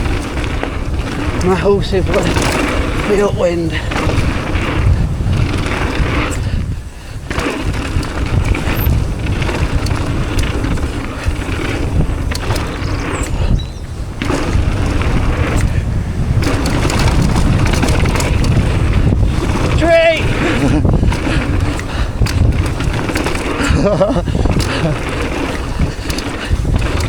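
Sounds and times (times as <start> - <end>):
bike rattling: 0.0 - 27.0
bike tyres rolling on dirt: 0.0 - 27.0
wind buffeting microphone: 0.0 - 27.0.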